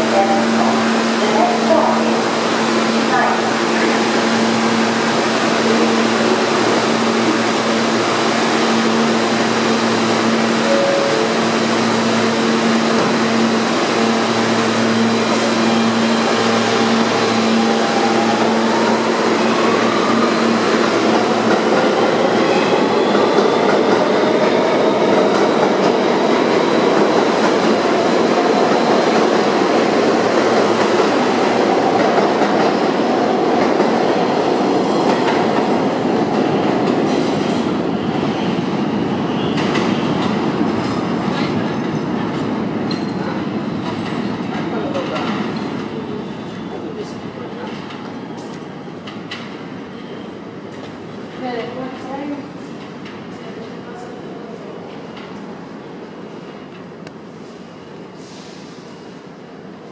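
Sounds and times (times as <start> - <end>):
subway train humming: 0.0 - 59.9.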